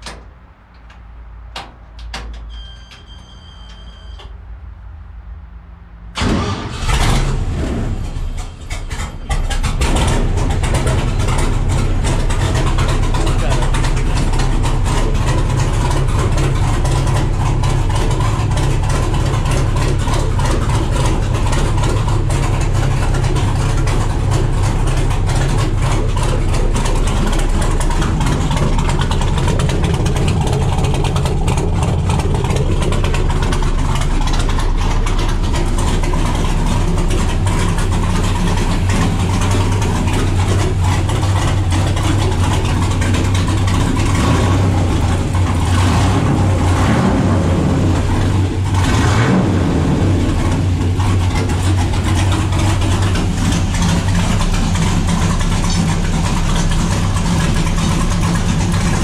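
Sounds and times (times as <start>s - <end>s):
engine idling through exhaust: 6.1s - 59.0s.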